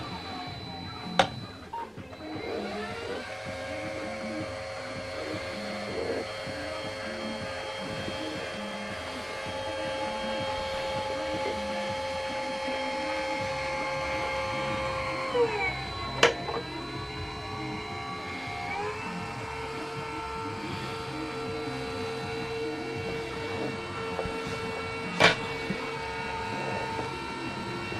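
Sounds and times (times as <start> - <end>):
electric hydraulic pump whining: 0.0 - 27.9.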